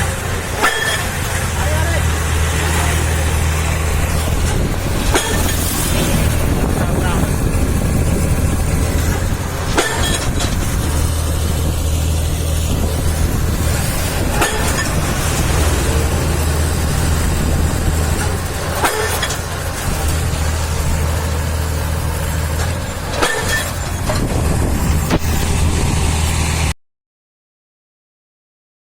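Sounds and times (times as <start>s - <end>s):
heavy machinery engine humming: 0.0s - 26.8s.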